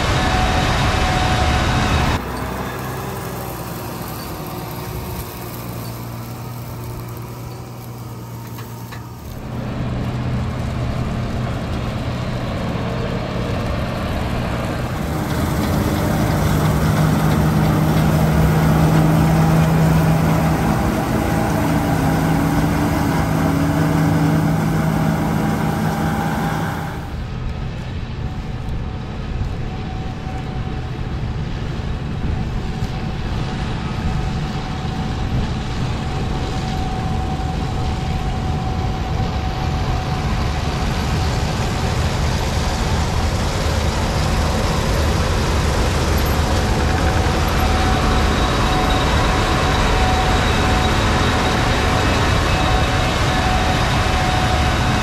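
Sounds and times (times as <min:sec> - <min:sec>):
combine harvester engine hum: 0:00.0 - 0:55.0
threshing machinery whine: 0:00.0 - 0:55.0.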